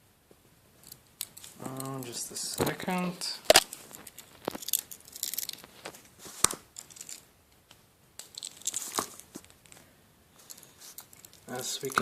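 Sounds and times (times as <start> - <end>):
crinkly handling rustle: 0.8 - 7.3, 8.2 - 12.0.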